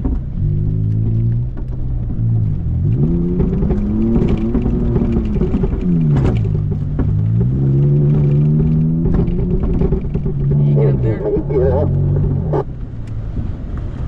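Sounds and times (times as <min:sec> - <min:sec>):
knocks and rattles: 0:00.0 - 0:12.7
off-road vehicle engine revving: 0:00.0 - 0:14.0.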